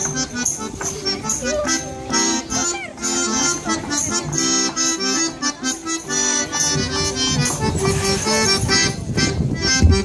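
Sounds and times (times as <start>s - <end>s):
folk dance music: 0.0s - 10.0s.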